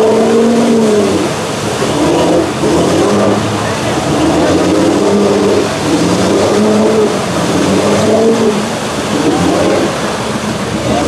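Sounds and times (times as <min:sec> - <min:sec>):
tires throwing mud and water: 0:00.0 - 0:11.0
truck engine revving hard: 0:00.0 - 0:11.0.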